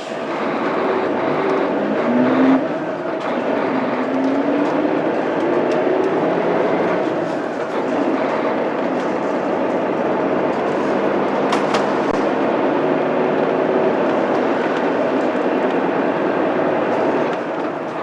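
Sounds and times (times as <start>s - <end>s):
bus diesel engine accelerating: 0.0s - 18.0s.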